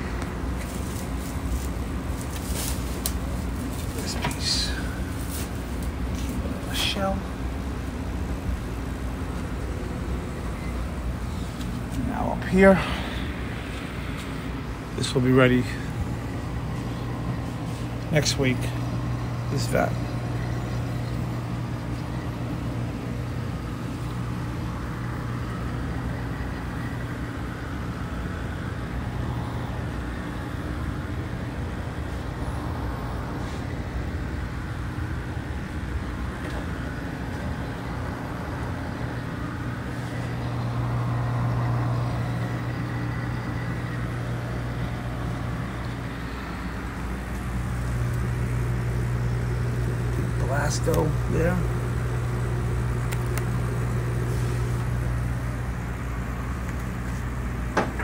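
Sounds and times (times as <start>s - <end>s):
aquarium pumps humming: 0.0s - 58.0s.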